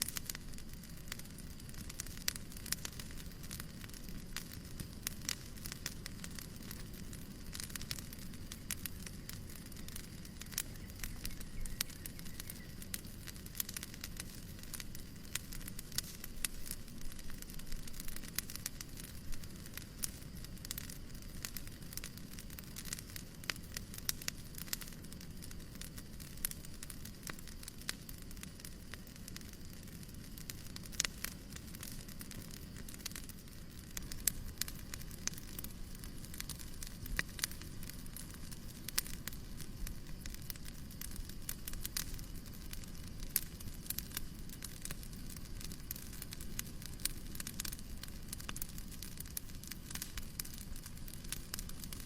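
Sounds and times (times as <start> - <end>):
fireplace crackling: 0.0 - 52.0.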